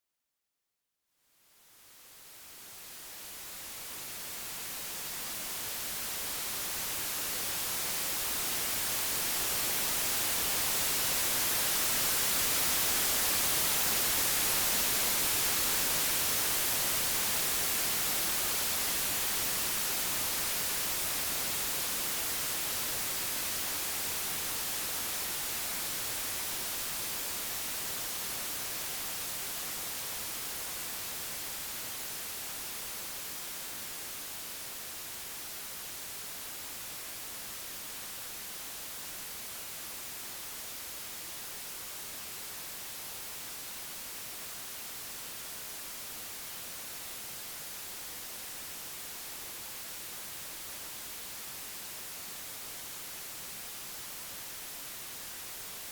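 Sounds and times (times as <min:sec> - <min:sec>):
white noise hiss: 0:01.1 - 0:55.9.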